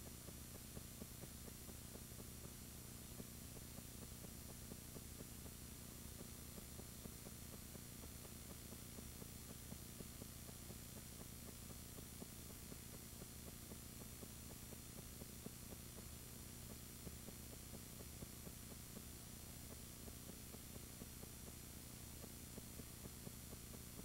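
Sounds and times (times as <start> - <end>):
faint hum and hiss: 0.0 - 24.0.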